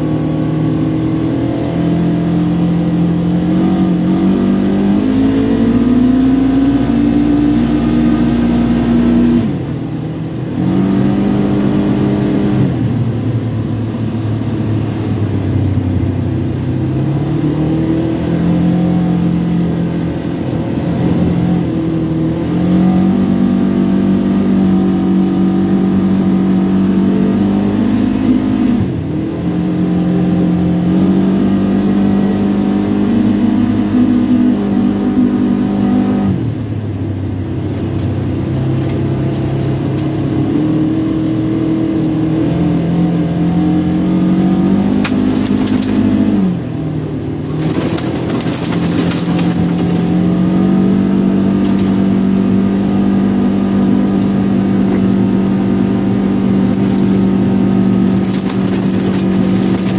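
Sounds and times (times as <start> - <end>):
engine running under throttle: 0.0 - 59.9.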